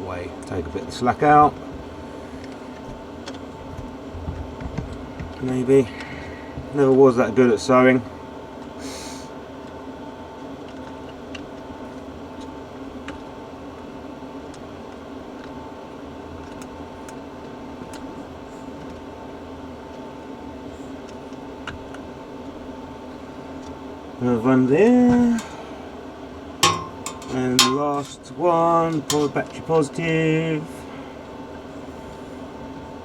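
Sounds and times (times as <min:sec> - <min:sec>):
electrical hum with high tone: 0:00.0 - 0:33.0.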